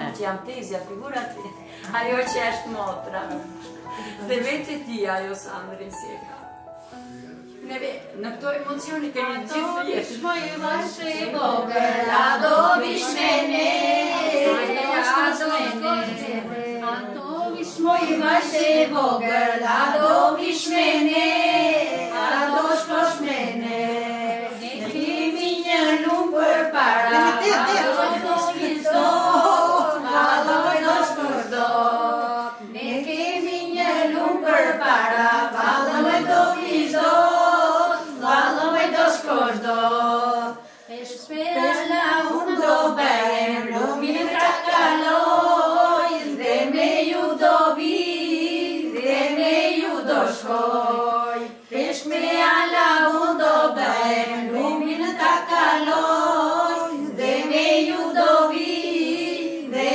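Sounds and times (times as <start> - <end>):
women singing unaccompanied: 8.3 - 59.9.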